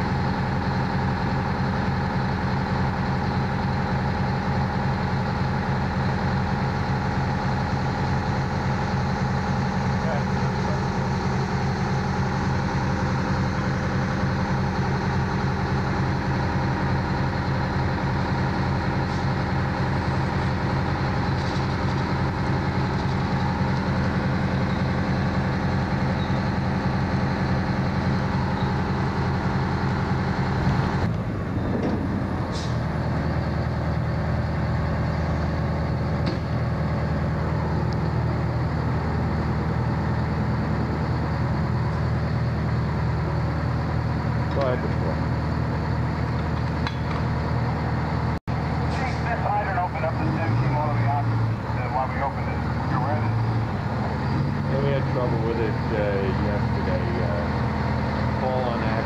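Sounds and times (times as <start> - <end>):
fire engine idling: 0.0 - 59.0.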